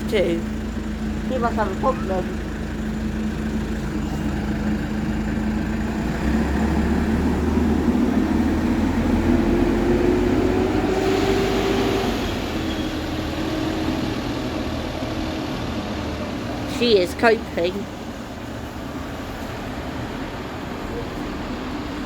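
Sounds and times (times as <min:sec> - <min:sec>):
diesel engine pulling away: 0:00.0 - 0:22.0.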